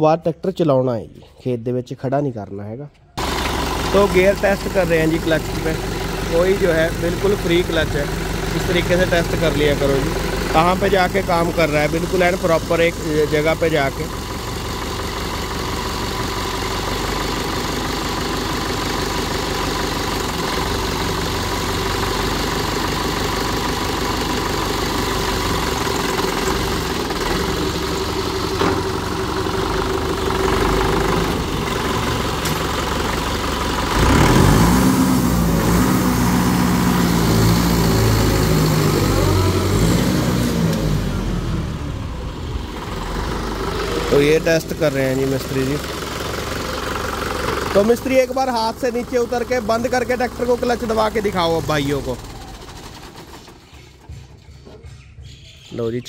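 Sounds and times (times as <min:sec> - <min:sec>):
tractor diesel engine running: 0:03.0 - 0:56.0.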